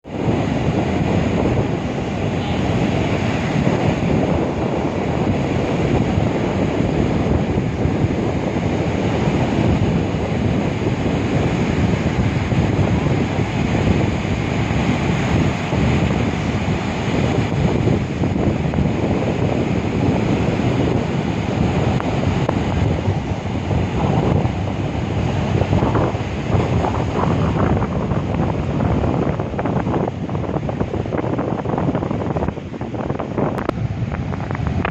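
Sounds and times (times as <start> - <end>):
surf washing onto beach: 0.0 - 34.9
wind buffeting microphone: 0.0 - 34.9.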